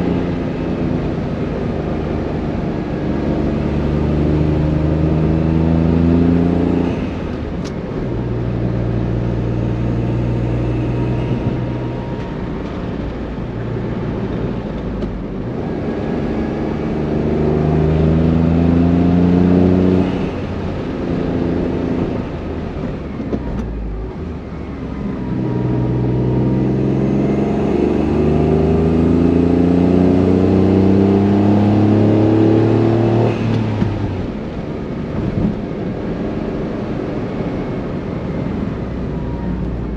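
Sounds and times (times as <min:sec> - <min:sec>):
car engine pulling hard: 0:00.0 - 0:39.9.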